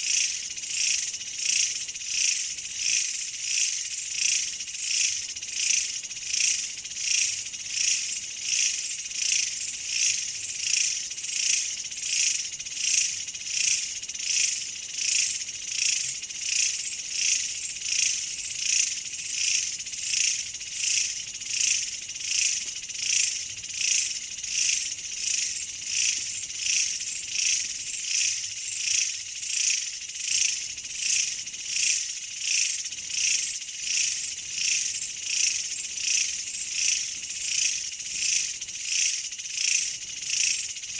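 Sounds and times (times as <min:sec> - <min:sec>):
insect chorus pulsing: 0:00.0 - 0:40.9.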